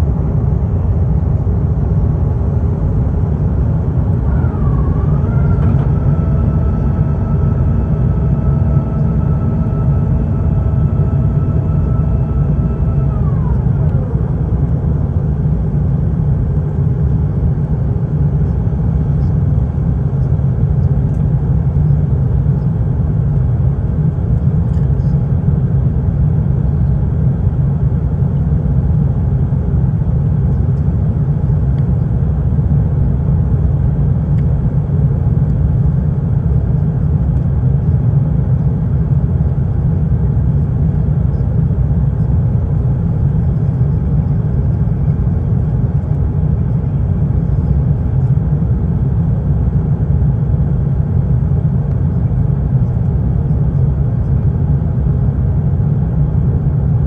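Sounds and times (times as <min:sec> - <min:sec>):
jet engine rumble: 0:00.0 - 0:57.0
jet engine whine: 0:00.0 - 0:57.0.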